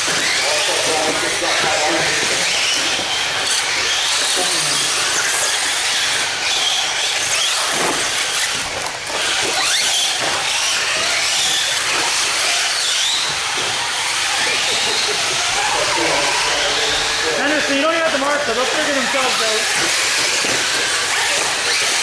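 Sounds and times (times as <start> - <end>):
rc car motor whines: 0.0 - 22.0.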